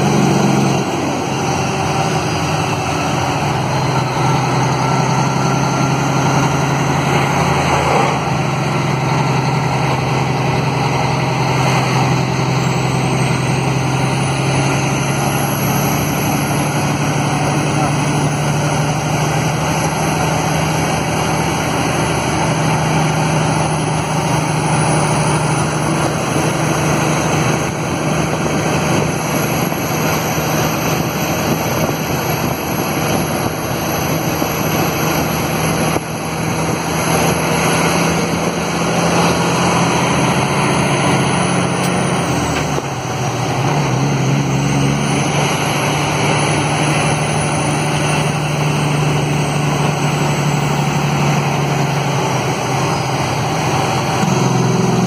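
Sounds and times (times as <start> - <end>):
diesel engine braking drone: 0.0 - 55.0.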